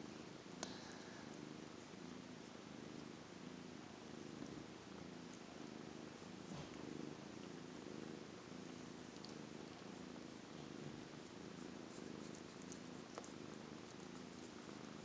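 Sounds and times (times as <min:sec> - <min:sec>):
cats purring: 0:00.0 - 0:15.0.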